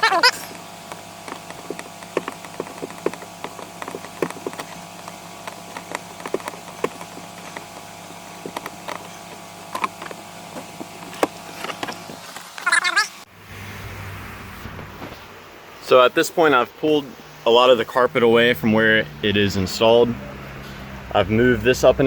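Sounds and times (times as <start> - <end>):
steady hum: 0.0 - 20.5.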